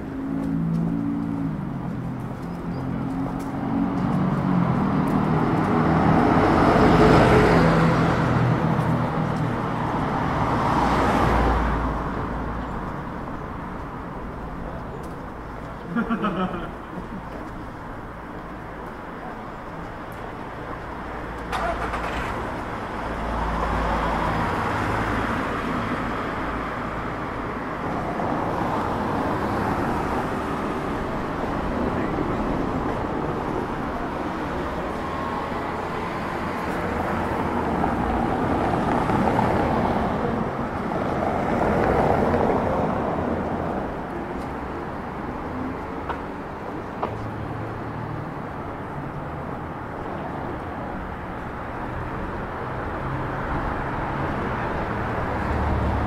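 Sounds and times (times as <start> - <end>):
road traffic noise: 0.0 - 56.0.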